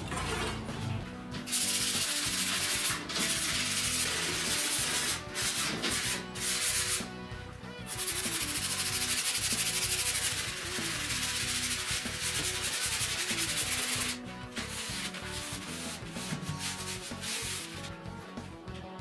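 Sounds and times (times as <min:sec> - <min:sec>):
sanding sponge rubbing on board: 0:01.5 - 0:07.1, 0:07.9 - 0:17.9.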